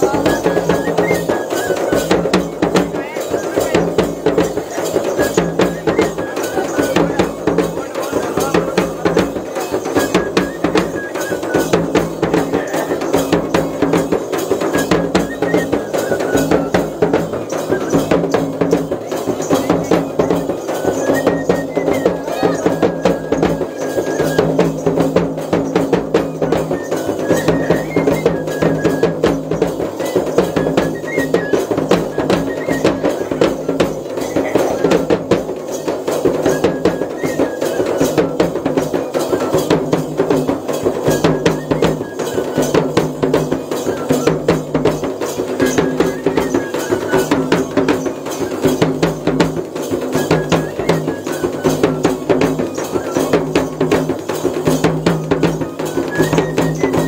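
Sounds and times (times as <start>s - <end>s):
fast drumming: 0.0s - 57.0s.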